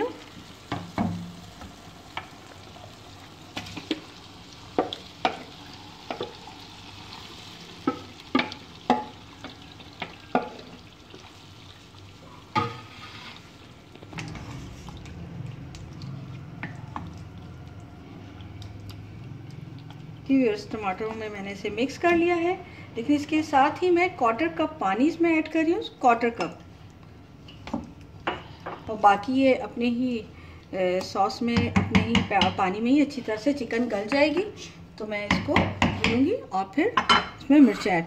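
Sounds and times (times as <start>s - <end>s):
faint sizzle: 0.0s - 37.8s.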